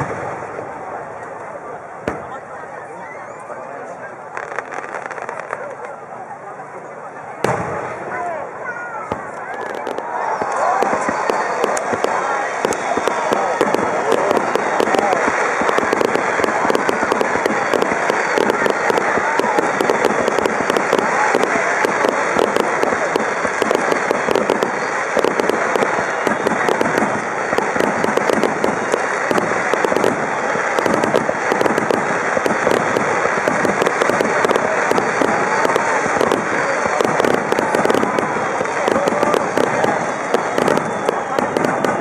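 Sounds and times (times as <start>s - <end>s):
fireworks bangs and crackling: 0.0s - 6.2s, 7.2s - 42.0s.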